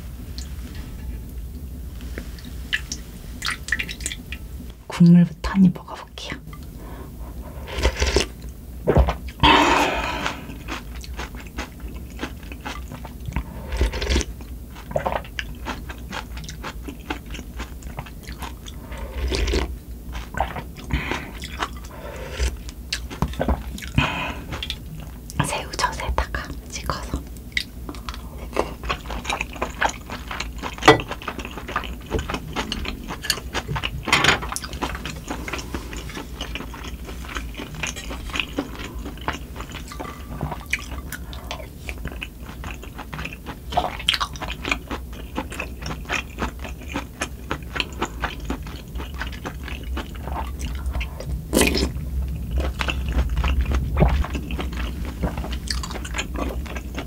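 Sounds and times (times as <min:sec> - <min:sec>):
steady low hum: 0:00.0 - 0:57.0
chewing and wet mouth noises: 0:05.9 - 0:57.0.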